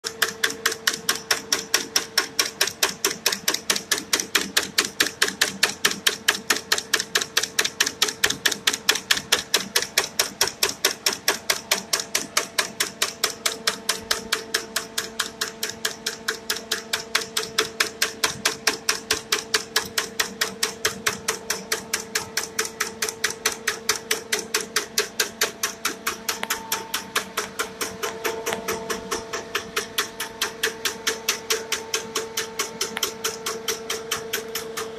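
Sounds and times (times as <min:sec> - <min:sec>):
machine hum: 0:00.0 - 0:34.9
nail machine clacking: 0:00.0 - 0:34.9.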